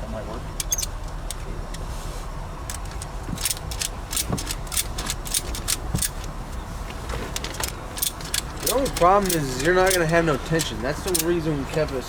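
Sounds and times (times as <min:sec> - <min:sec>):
metal hooks clicking and rattling: 0:00.6 - 0:01.8, 0:02.7 - 0:06.6, 0:07.2 - 0:12.0.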